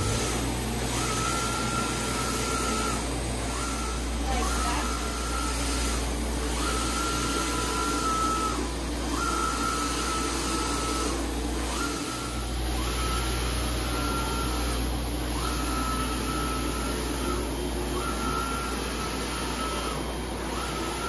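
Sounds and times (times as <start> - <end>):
printer carriage whine: 0.0 - 21.0.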